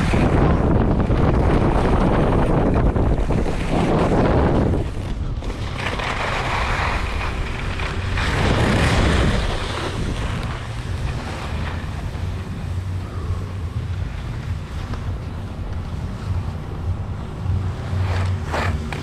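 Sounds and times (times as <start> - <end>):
skis scraping on snow: 0.0 - 19.0
wind noise on microphone: 0.0 - 19.0.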